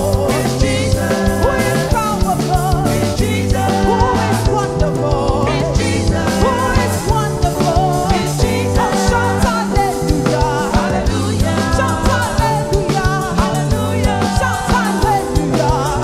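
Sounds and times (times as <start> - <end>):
person singing: 0.0 - 16.0
upbeat worship music: 0.0 - 16.0.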